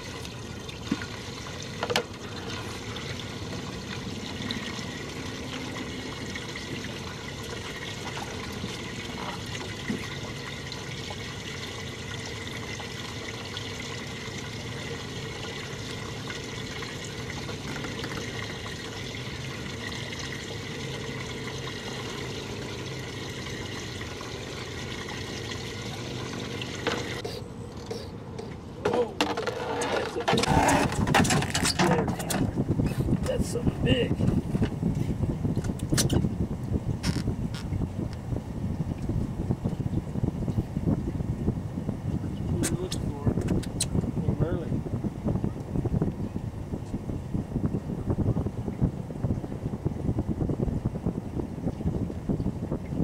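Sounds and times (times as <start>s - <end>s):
water trickling: 0.0s - 29.4s, 30.8s - 53.0s.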